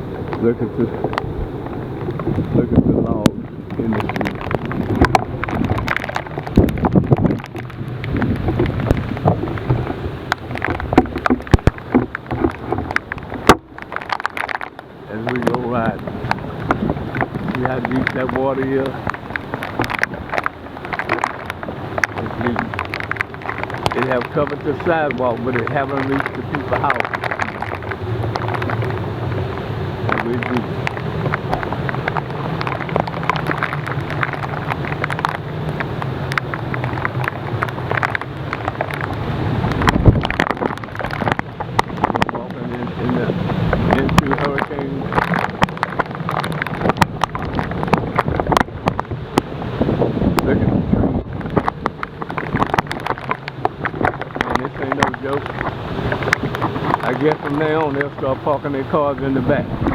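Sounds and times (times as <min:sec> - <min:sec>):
sharp clicks and knocks: 0:00.0 - 0:49.6, 0:50.3 - 0:59.9
short ticks and crackles: 0:00.0 - 0:50.6, 0:51.2 - 0:59.9
water splashing and sloshing: 0:00.0 - 0:59.9
wind rumble on microphone: 0:00.0 - 0:59.9.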